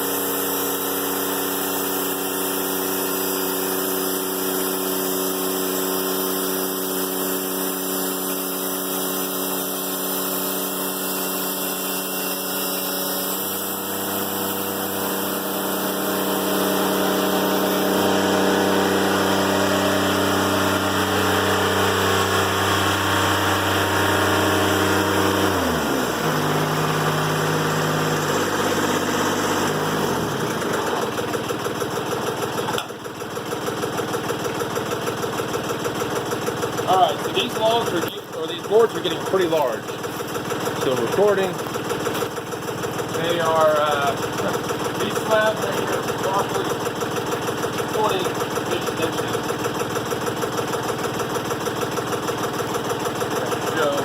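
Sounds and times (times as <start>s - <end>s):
sawmill diesel engine running: 0.0s - 54.0s.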